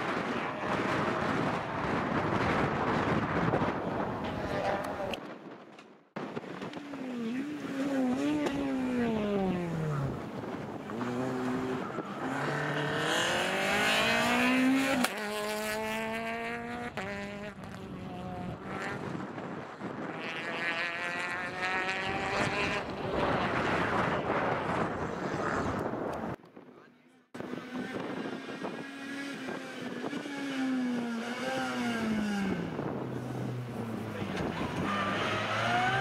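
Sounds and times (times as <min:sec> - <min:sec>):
rally car engine revving: 0:00.0 - 0:05.2, 0:06.6 - 0:25.9, 0:27.4 - 0:36.0.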